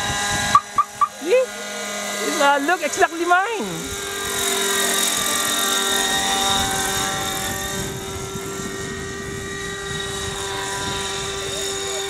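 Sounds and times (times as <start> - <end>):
model helicopter whine: 0.0 - 12.0.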